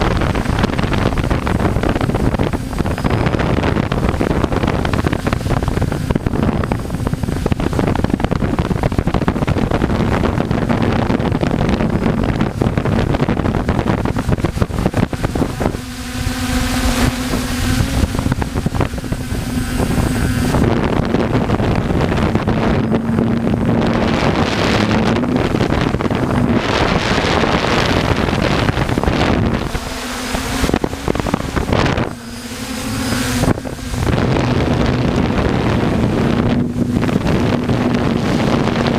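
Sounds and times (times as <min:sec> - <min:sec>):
steady motor hum: 0:00.0 - 0:38.9
wind buffeting microphone: 0:00.0 - 0:38.9.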